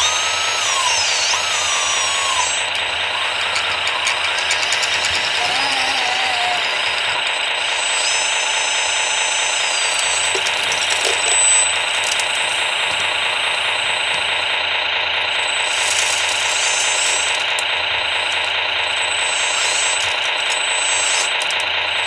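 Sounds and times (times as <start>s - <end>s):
fast mechanical rattle and hum: 0.0s - 22.0s
high motor whines: 0.0s - 22.0s.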